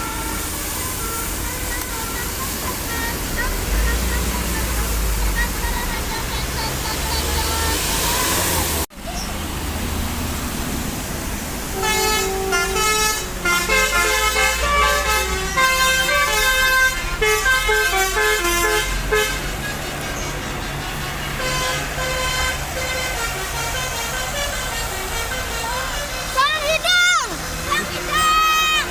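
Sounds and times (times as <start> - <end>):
musical air horn tune: 0.0 - 8.9, 11.7 - 26.8.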